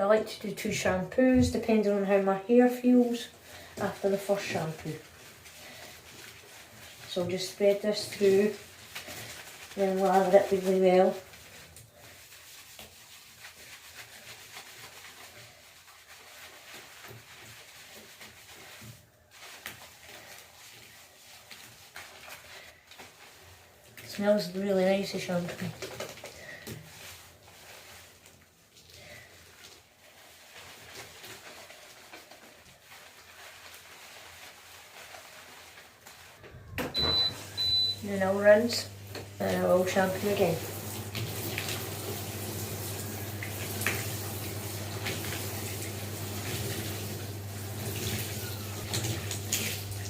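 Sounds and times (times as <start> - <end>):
hands rubbing shampoo through hair: 1.5 - 50.0.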